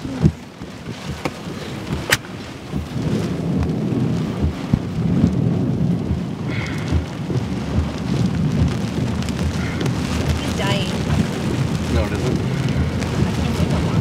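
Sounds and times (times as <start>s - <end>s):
heavy rain on car: 0.0s - 14.0s
wind rumble: 0.0s - 14.0s.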